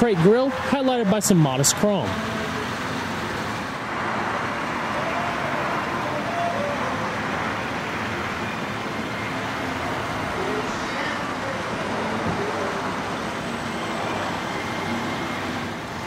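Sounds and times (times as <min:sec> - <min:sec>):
motor vehicle noise: 0:00.0 - 0:16.0.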